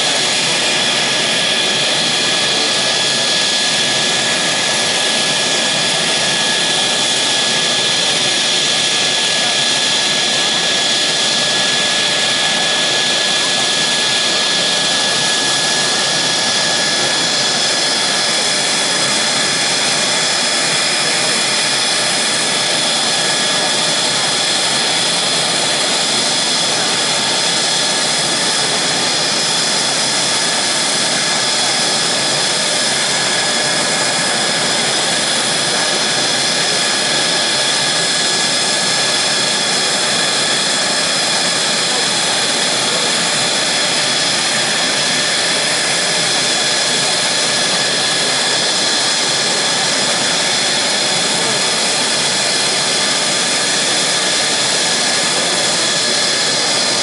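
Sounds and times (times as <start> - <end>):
jet engine roaring with high whine: 0.0 - 57.0.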